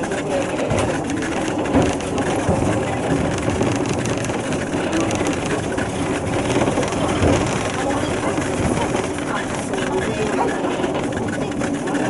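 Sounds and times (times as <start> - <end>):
train engine drone: 0.0 - 12.0
wheels rolling on rails: 0.0 - 12.0.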